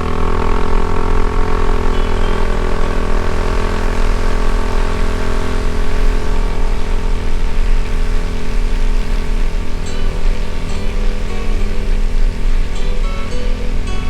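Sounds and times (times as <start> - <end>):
low wind rumble on microphone: 0.0 - 14.0
motorcycle engine cruising: 0.0 - 14.0.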